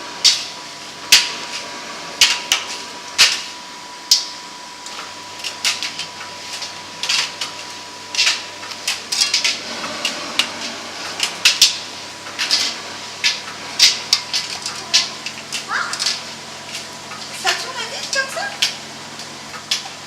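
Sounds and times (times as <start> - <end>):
dryer motor hum: 0.0 - 20.0.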